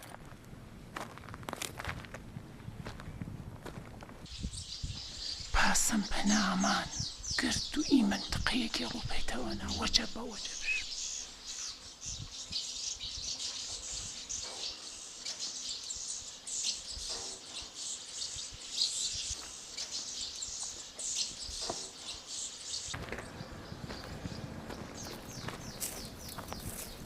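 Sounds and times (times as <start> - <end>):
small birds chirping: 4.3 - 27.0.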